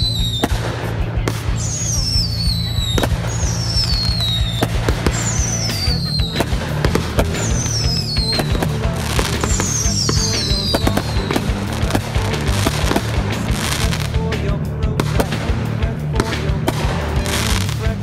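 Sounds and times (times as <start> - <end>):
fireworks bursting with bangs: 0.0 - 18.0
song with steady beat: 0.0 - 18.0.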